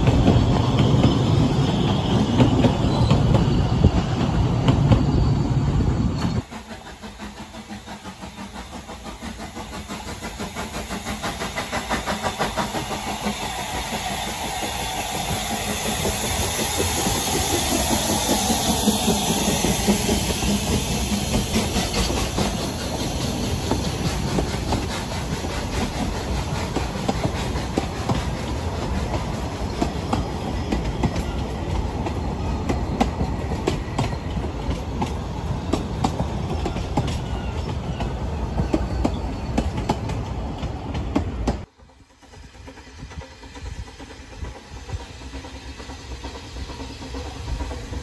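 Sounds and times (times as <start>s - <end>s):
railway carriages rumbling past: 0.0s - 48.0s
steam locomotive exhaust beats: 0.0s - 48.0s
wheels clicking on rail joints: 0.0s - 48.0s.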